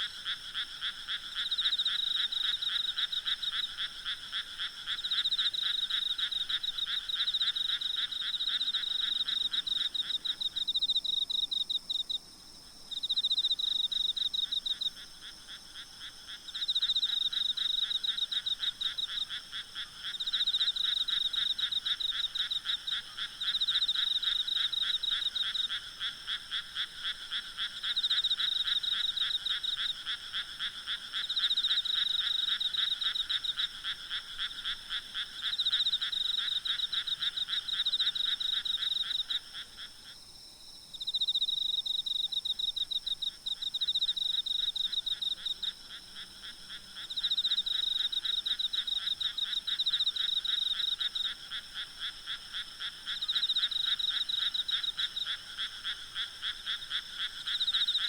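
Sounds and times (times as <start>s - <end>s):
frogs croaking in chorus: 0.0s - 58.0s.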